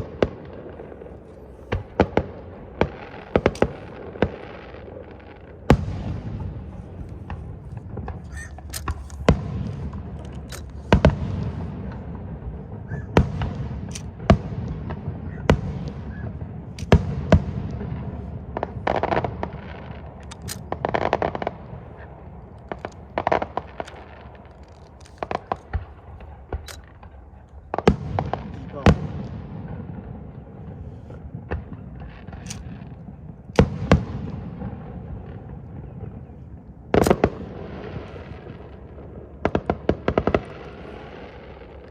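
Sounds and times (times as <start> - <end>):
firework crackling: 0.0 - 41.9
firework shells bursting: 0.0 - 41.9.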